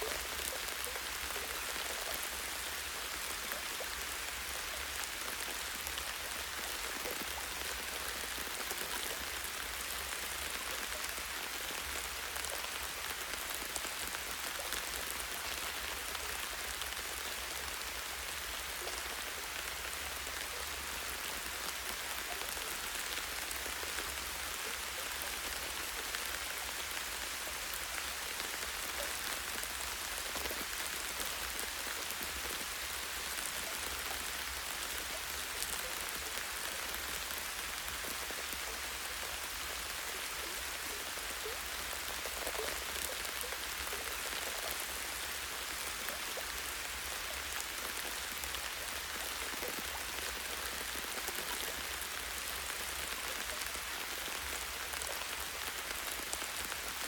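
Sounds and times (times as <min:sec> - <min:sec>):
light rain pattering on leaves: 0:00.0 - 0:57.0.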